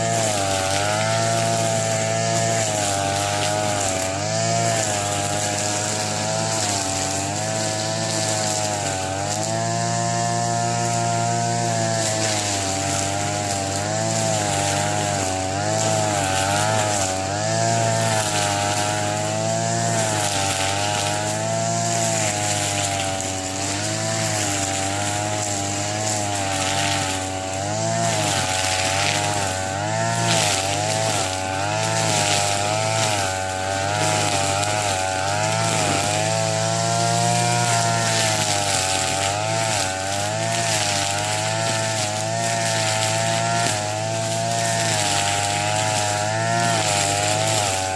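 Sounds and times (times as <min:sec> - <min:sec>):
brush cutter cutting grass: 0:00.0 - 0:47.9.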